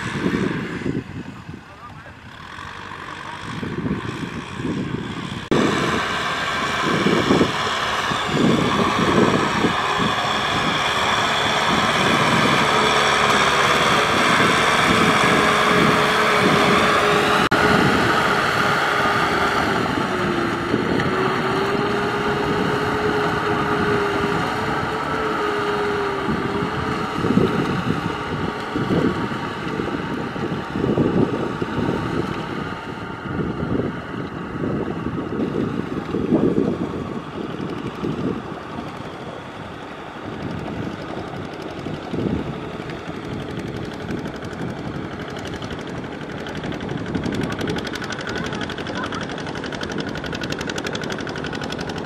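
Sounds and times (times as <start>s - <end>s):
wind buffeting microphone: 0.0s - 2.2s, 3.4s - 52.0s
tractor diesel engine: 0.0s - 52.0s
steady whine: 4.6s - 52.0s.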